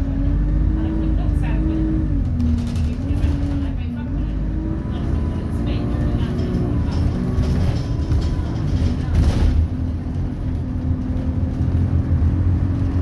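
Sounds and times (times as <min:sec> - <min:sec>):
bus diesel engine drone: 0:00.0 - 0:13.0
road rumble: 0:00.0 - 0:13.0.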